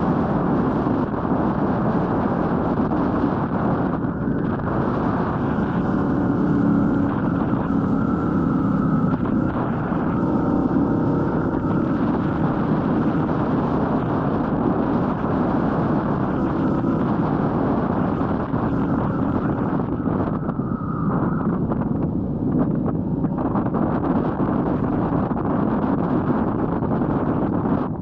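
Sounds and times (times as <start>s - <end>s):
motorcycle engine running: 0.0s - 27.8s
wind over microphone: 0.0s - 28.0s.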